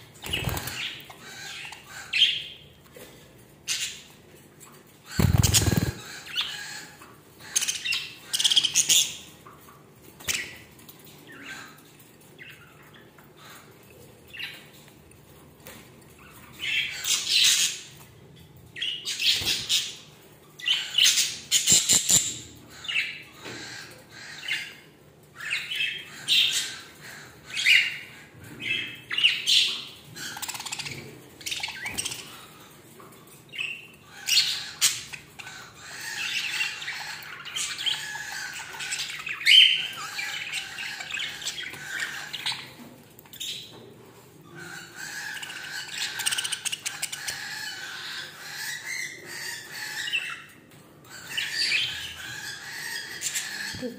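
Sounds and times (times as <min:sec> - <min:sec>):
budgerigars chirping and squawking: 0:00.0 - 0:02.7, 0:03.6 - 0:04.2, 0:04.8 - 0:09.5, 0:11.3 - 0:14.8, 0:16.1 - 0:18.1, 0:18.7 - 0:43.8, 0:44.4 - 0:53.9.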